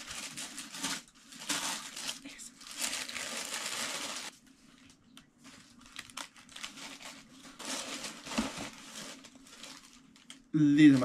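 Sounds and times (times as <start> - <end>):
tissue paper rustling and crinkling: 0.0 - 11.0.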